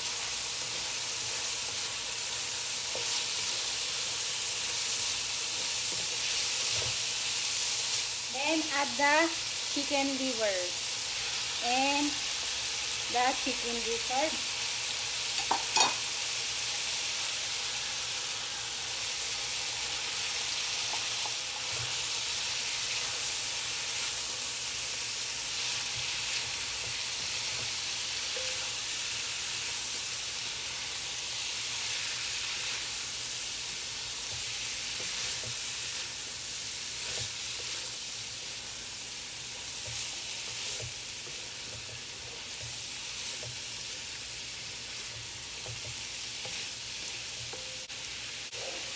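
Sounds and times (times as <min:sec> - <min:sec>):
meat sizzling in oil: 0:00.0 - 0:48.9.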